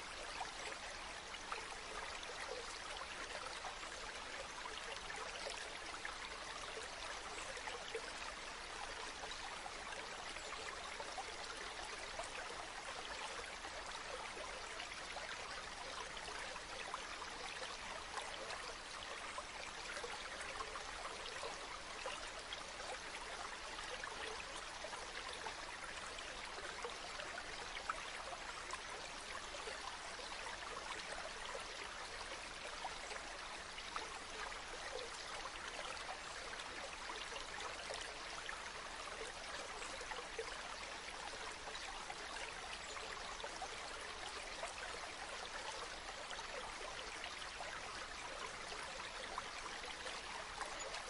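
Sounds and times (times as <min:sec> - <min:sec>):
small splashes and trickles: 0:00.0 - 0:51.0.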